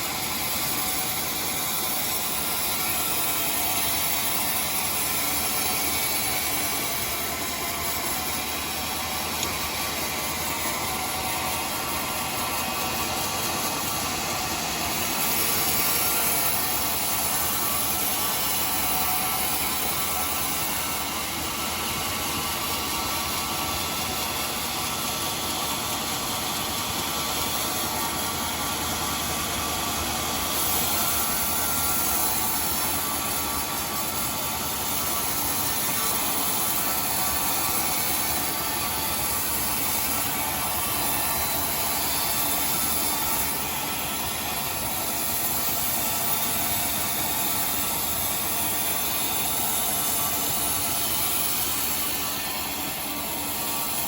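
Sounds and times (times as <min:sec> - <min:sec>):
sawmill saw cutting timber: 0:00.0 - 0:54.0.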